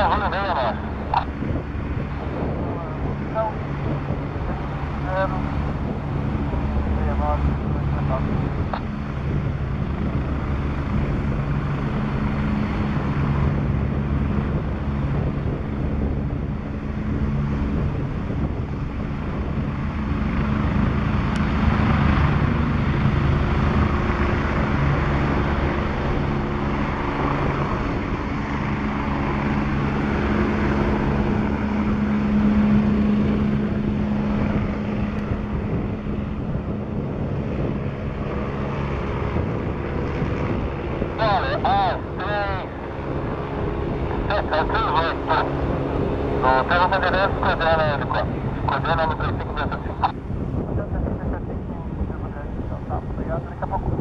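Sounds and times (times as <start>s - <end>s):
helicopter lifting off: 0.0s - 54.0s.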